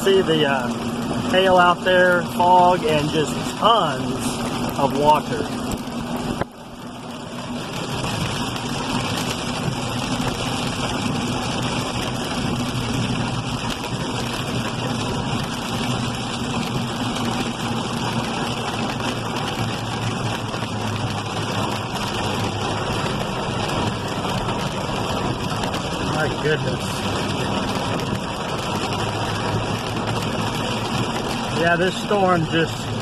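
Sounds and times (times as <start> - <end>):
rushing water and hail: 0.0 - 33.0
vehicle engine running low: 0.0 - 33.0.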